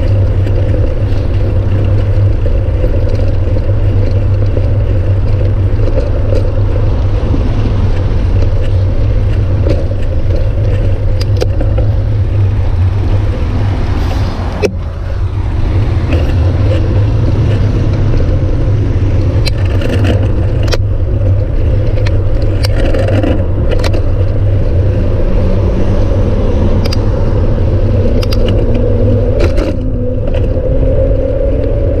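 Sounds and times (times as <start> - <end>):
bike clicks and rattles: 0.0 - 32.0
road traffic: 0.0 - 32.0
wind rumble on microphone: 0.0 - 32.0.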